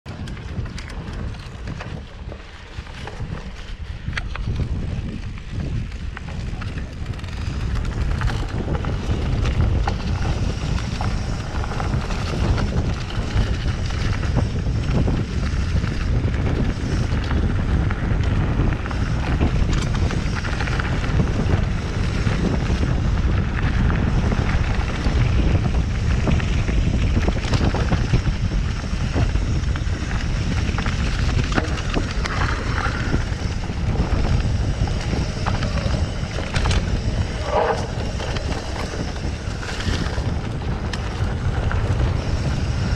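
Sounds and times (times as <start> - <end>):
wind buffeting microphone: 0.0 - 42.9
bike clicks and rattles: 0.1 - 42.9
bike tyres rumbling on dirt: 0.1 - 42.9.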